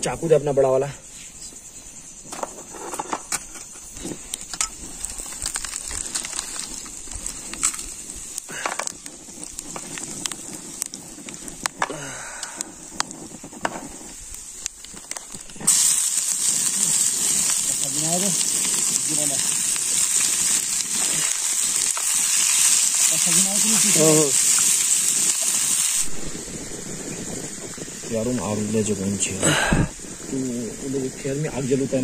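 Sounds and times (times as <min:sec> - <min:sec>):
night insects droning: 0:00.0 - 0:32.0
campfire crackling and popping: 0:01.7 - 0:32.0
loud hiss: 0:03.3 - 0:32.0.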